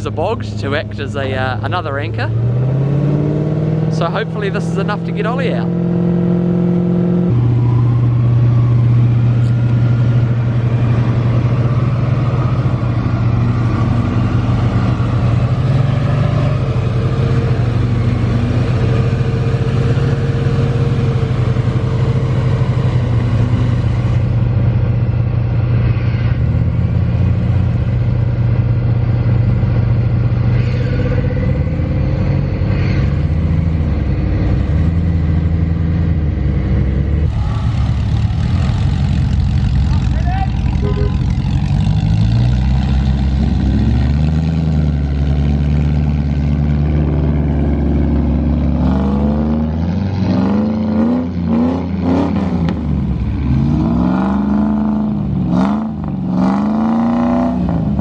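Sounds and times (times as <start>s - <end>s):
engine running at raised revs: 0.0s - 58.0s.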